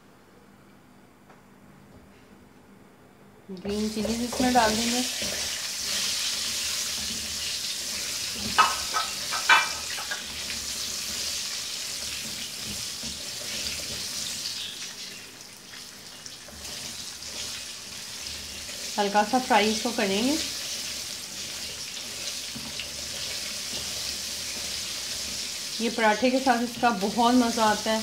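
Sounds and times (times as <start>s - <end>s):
chillies sizzling in hot oil: 3.6s - 28.0s.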